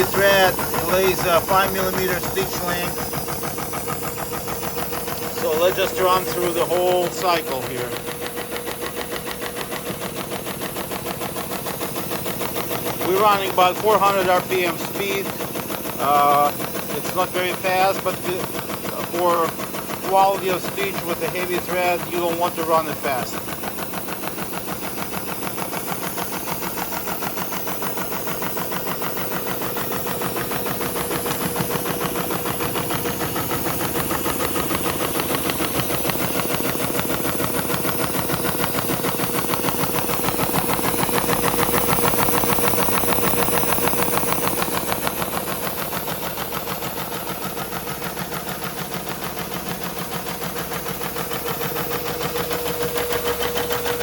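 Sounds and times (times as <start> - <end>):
air cooler humming: 0.0 - 24.1, 24.7 - 47.2, 50.8 - 54.0
sewing machine stitching: 0.0 - 54.0.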